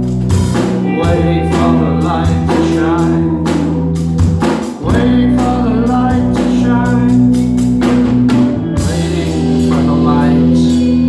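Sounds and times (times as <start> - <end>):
bass guitar: 0.0 - 11.0
drum kit with cymbals: 0.0 - 11.0
electric guitars: 0.0 - 11.0
voices singing: 0.6 - 11.0.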